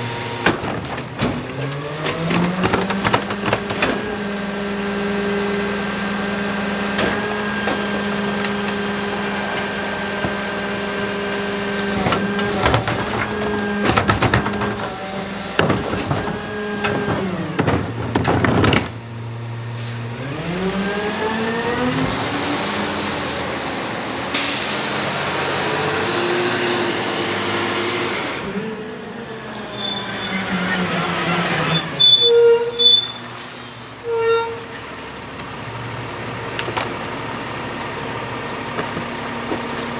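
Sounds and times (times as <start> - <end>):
bins clanking against hopper: 0.0 - 27.8, 34.6 - 39.9
garbage truck engine and hydraulics: 0.0 - 39.9.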